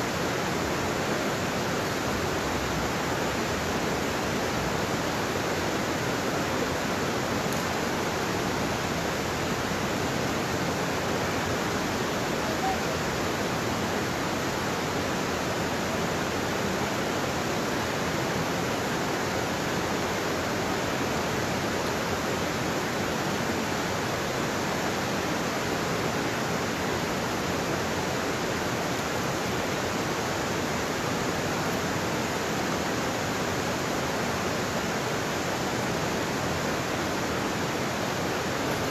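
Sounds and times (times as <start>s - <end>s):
creek water running over rocks: 0.0s - 38.9s
waterfall rushing: 0.0s - 38.9s.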